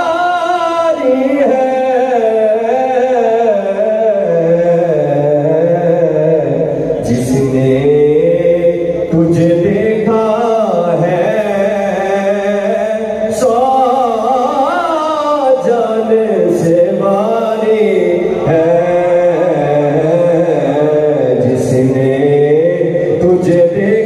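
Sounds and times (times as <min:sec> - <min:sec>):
man chanting a devotional song: 0:00.0 - 0:24.0.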